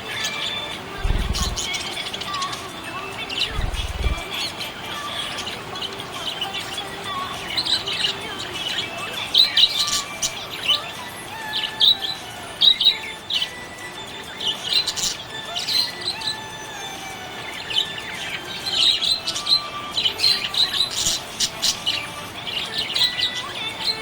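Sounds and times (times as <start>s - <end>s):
budgerigars chirping: 0.0s - 24.0s.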